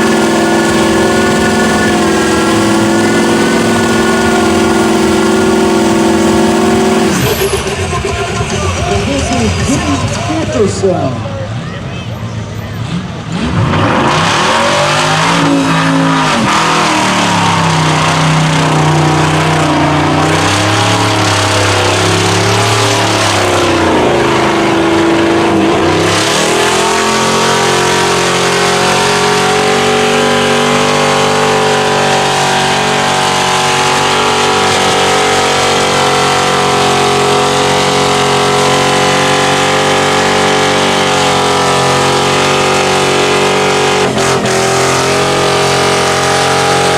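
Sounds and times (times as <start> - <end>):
tires spinning in mud: 0.0 - 10.6, 12.6 - 46.9
truck engine revving hard: 0.0 - 11.6, 12.2 - 46.9.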